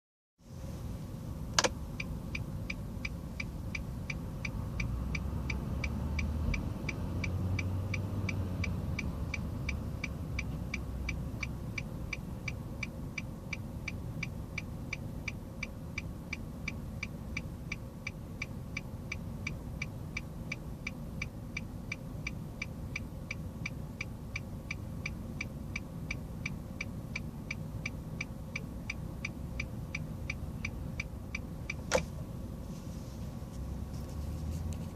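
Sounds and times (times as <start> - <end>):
low engine rumble: 0.4 - 34.9
turn-signal flasher ticking: 1.6 - 32.1.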